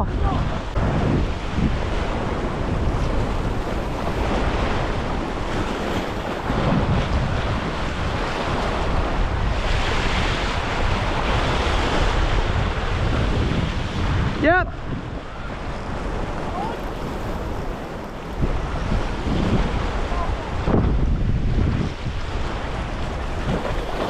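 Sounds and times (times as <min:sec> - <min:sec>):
ocean surf washing against rocks: 0:00.0 - 0:24.0
wind buffeting microphone: 0:00.0 - 0:24.0.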